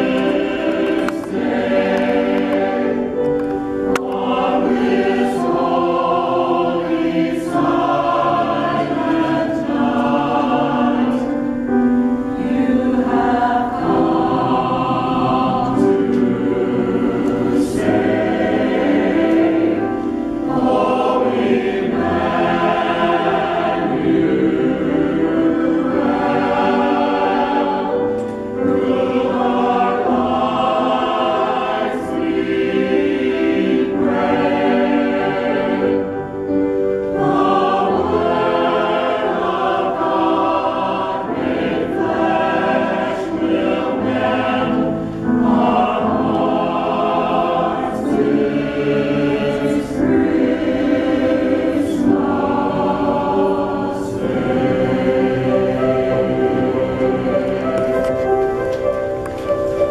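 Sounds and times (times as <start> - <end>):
mixed choir singing in harmony: 0.0 - 59.9.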